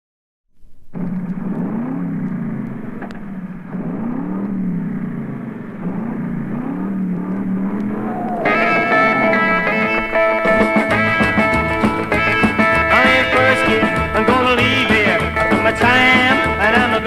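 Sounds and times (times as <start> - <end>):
engine revving: 0.9 - 17.0.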